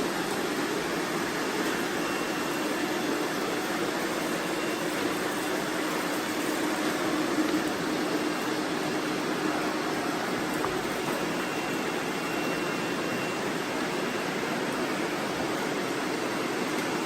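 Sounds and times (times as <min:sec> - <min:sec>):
robot vacuum cleaners whirring: 0:00.0 - 0:17.0.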